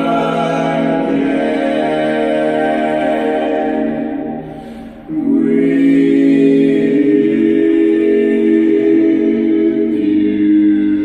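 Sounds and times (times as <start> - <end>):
men singing close harmony: 0.0 - 4.4, 5.1 - 11.0.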